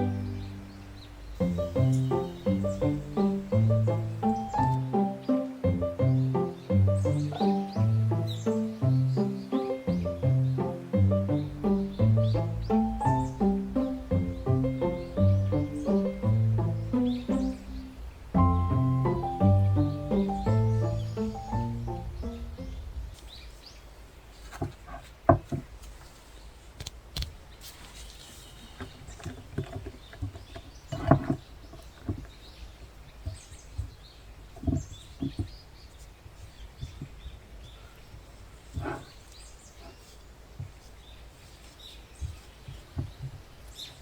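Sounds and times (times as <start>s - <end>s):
faint room noise: 0.0s - 44.0s.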